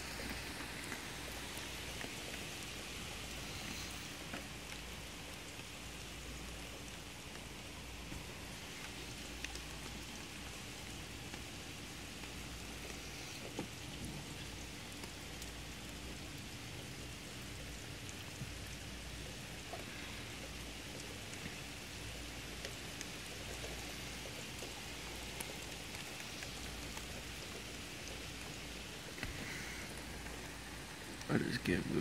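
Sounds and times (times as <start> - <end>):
heavy rain: 0.0 - 32.0
raindrop ticks: 0.0 - 32.0.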